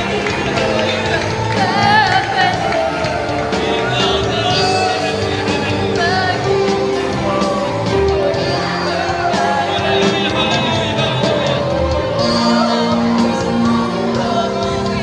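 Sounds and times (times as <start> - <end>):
choir singing: 0.0 - 15.0
instrumental accompaniment with beat: 0.0 - 15.0.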